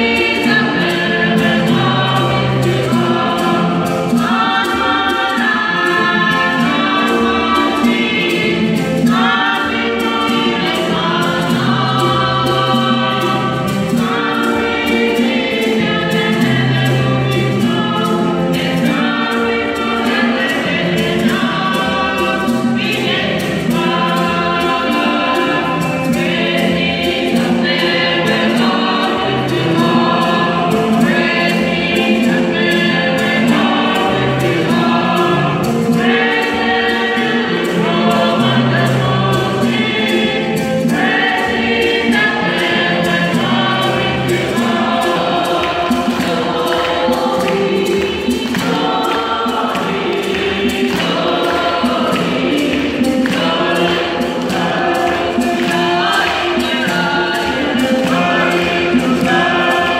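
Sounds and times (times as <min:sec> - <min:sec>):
choir singing in parts: 0:00.0 - 0:59.9.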